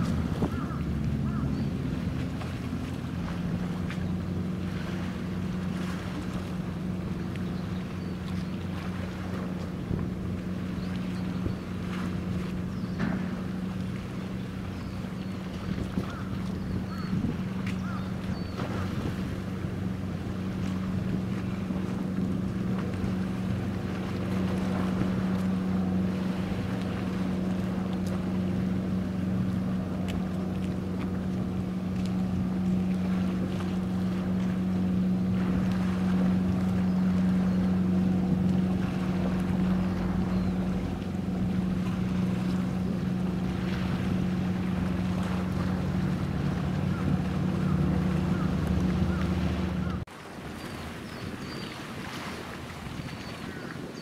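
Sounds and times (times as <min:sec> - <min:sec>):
ship engine machinery hum: 0:00.0 - 0:54.0
wind rumbling on microphone: 0:00.0 - 0:54.0.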